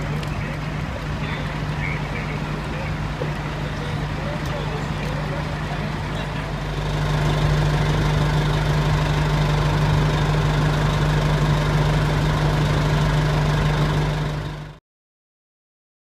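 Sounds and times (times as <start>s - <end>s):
diesel engine humming: 0.0s - 14.8s.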